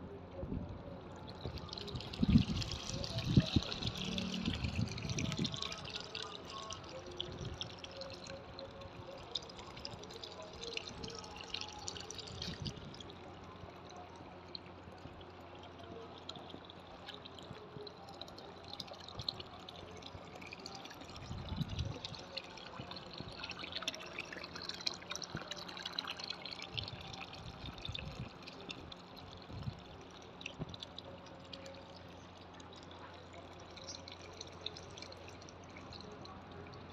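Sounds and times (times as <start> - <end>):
fountain water splashing into basin: 1.0 - 36.9.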